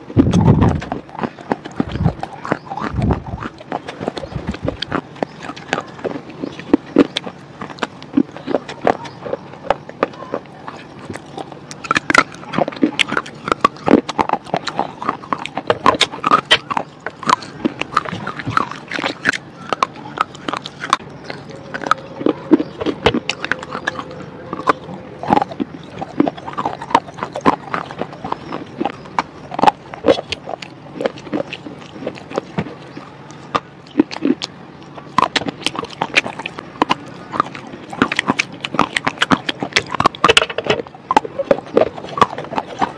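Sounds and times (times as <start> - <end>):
crisp chewing crunches: 0.0 - 42.9.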